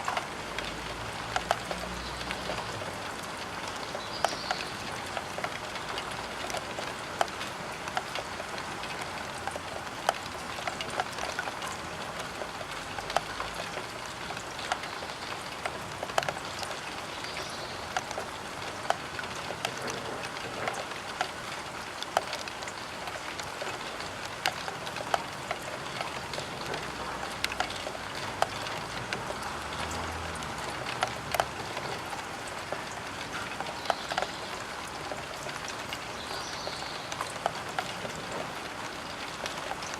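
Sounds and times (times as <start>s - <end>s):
rain pattering on glass: 0.0s - 39.9s
raindrop ticks: 0.0s - 39.9s.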